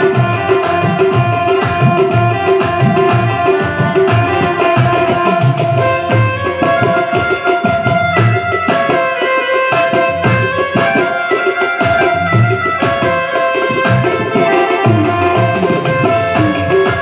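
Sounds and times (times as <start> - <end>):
hand drum beat: 0.0 - 17.0
held melodic line: 0.0 - 17.0.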